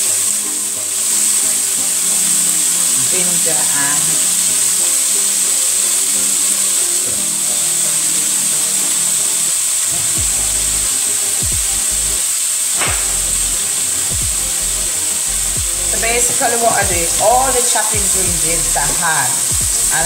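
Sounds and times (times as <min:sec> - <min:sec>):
background music: 0:00.0 - 0:20.0
vegetables sizzling in oil: 0:00.0 - 0:20.0.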